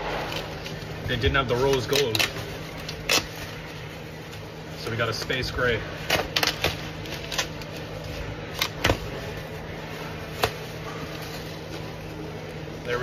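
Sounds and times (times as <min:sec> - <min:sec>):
bubble wrap crinkling: 0:00.0 - 0:13.0
steady low hum: 0:00.0 - 0:13.0.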